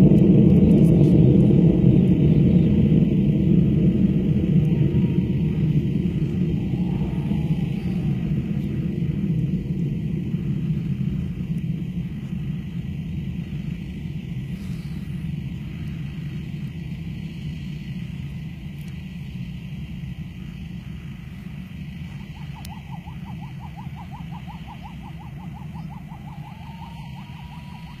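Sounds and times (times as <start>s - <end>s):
distant rocket motor roar: 0.0s - 28.0s.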